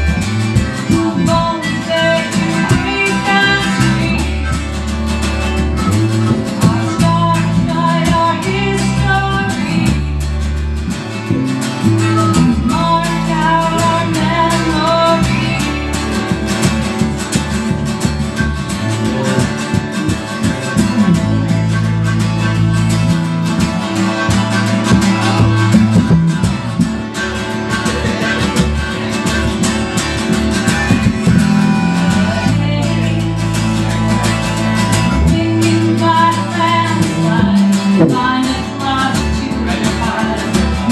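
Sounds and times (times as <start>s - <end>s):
harmonica held notes: 0.0s - 8.0s, 9.5s - 38.8s
strummed acoustic guitar: 0.0s - 40.9s.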